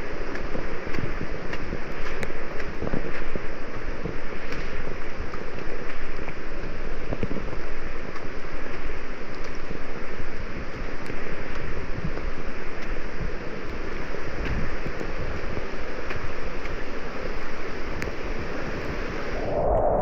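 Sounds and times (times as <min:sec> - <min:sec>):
steady rain falling: 0:00.0 - 0:19.5
low rumble on microphone: 0:00.0 - 0:20.0.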